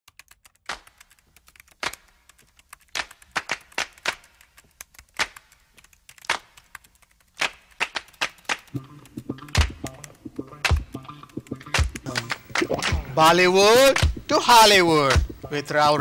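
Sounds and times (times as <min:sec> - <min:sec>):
keystroke clicks: 0:00.1 - 0:13.0.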